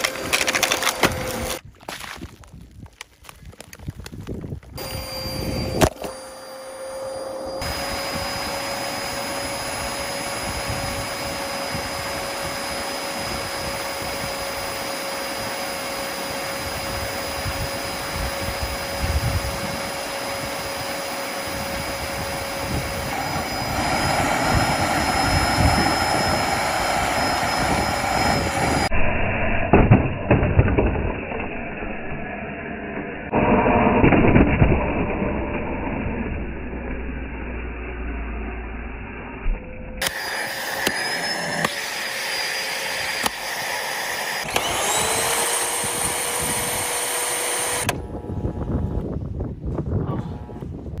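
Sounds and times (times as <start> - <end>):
vacuum cleaner motor whine: 0.0 - 1.6, 4.8 - 29.0, 30.4 - 49.3, 50.0 - 50.9.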